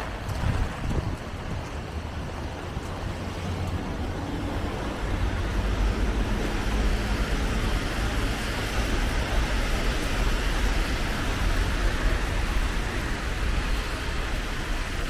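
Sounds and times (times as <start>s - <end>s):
traffic rumble: 0.0s - 15.0s
tyres hissing on wet road: 0.0s - 15.0s.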